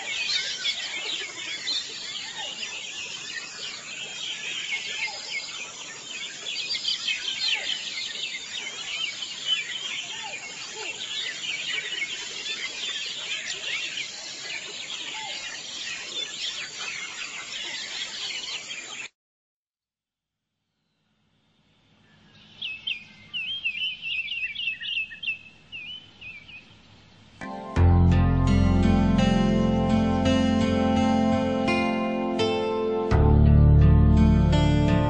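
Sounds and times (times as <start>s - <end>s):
birds chirping: 0.0s - 19.1s, 21.8s - 33.2s.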